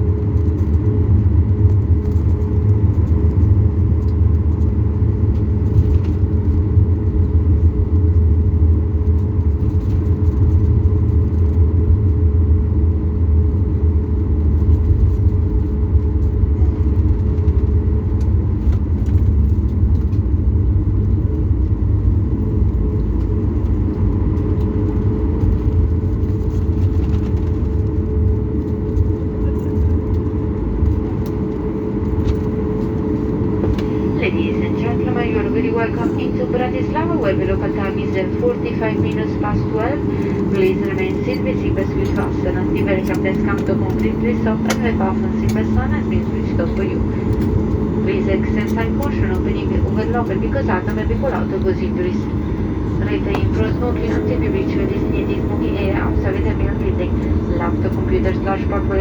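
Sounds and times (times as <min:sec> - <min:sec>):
constant cabin hum: 0:00.0 - 0:59.0
jet engines idling: 0:00.0 - 0:59.0.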